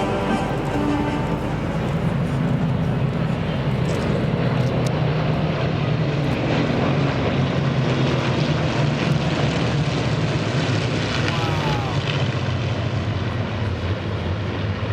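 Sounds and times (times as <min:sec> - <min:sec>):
propeller planes flying past: 0:00.0 - 0:14.9.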